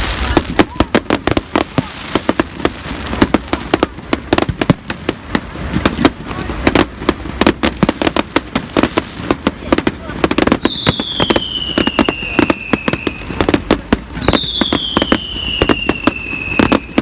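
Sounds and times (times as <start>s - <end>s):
fireworks bangs and cracks: 0.0s - 17.0s.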